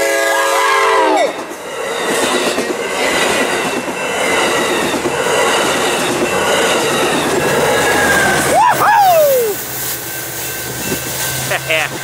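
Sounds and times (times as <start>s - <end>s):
train wheels rumbling and clacking: 1.2s - 12.0s.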